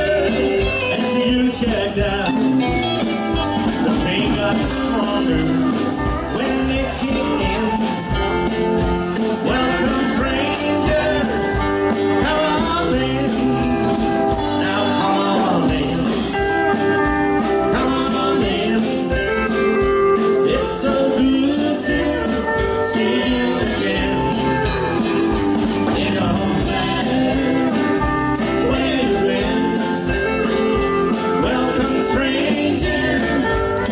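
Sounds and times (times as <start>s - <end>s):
live country band playing: 0.0s - 33.9s
tambourine shaking: 0.0s - 33.9s.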